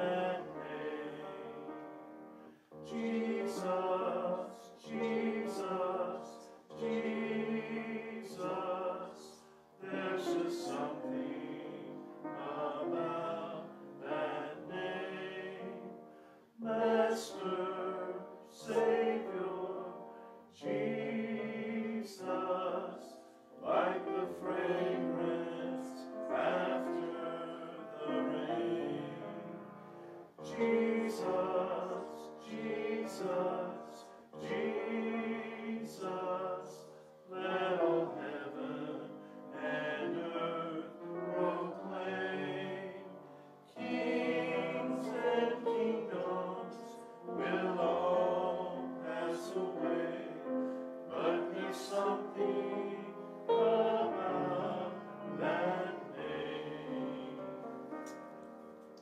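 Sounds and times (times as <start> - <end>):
mixed choir singing a hymn: 0.0 - 58.2.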